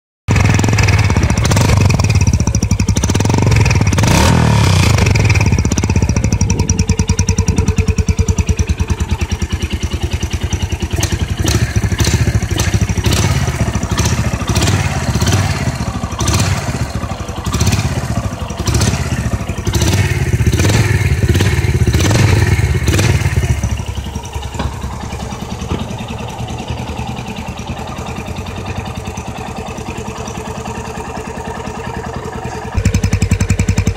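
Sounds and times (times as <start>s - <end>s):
motorcycle engine revving: 0.3s - 33.9s.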